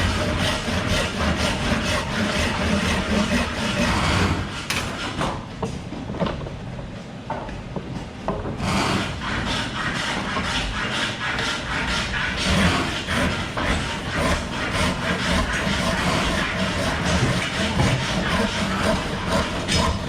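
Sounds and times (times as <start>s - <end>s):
hand tool scraping wood: 0.0s - 5.2s, 8.6s - 20.0s.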